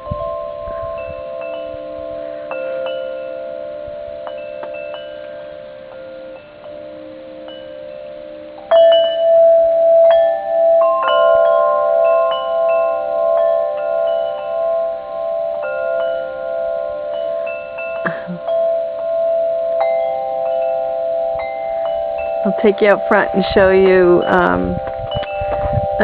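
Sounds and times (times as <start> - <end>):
metal wind chimes ringing: 0.0 - 26.0.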